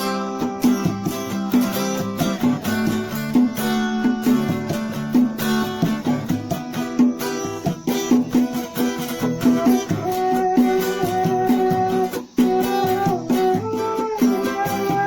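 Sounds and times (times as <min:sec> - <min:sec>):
plucked guitar notes: 0:00.0 - 0:15.0.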